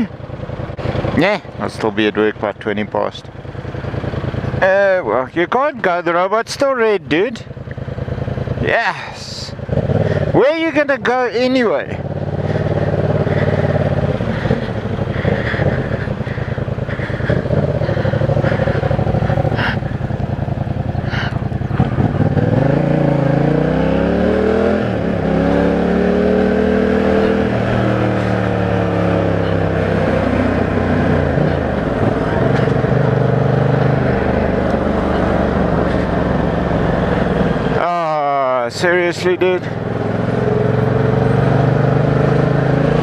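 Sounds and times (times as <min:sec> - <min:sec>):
motorcycle engine idling and revving: 0:00.0 - 0:43.0.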